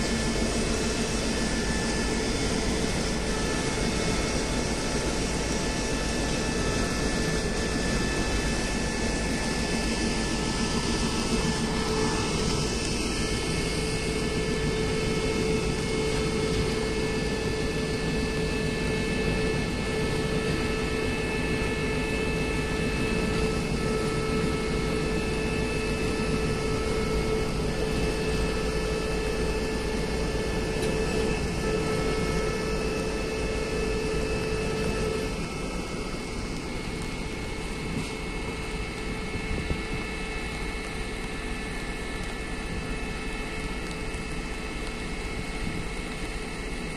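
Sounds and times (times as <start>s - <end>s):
constant hum: 0.0s - 46.9s.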